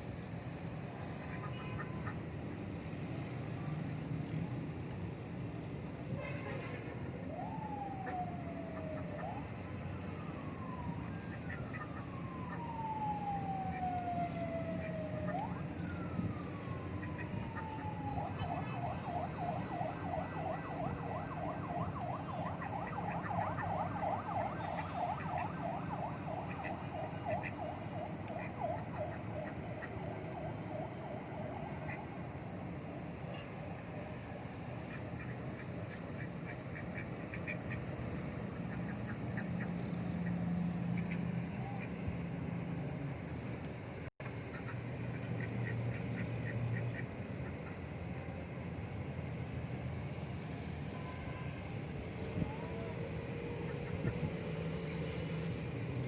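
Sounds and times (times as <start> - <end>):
emergency vehicle siren: 0.0 - 37.2, 37.8 - 44.2, 47.9 - 56.0.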